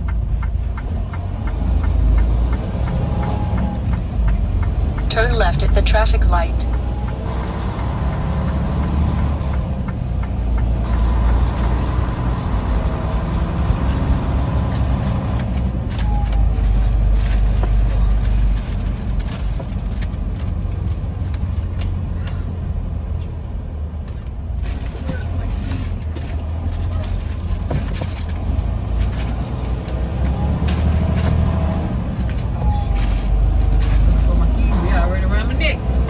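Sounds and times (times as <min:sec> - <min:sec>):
truck engine and road rumble: 0:00.0 - 0:36.0.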